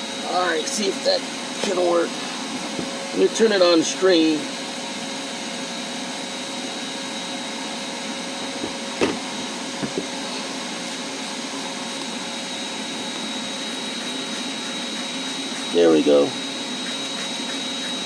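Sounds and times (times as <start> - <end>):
shop vac running: 0.0 - 18.0.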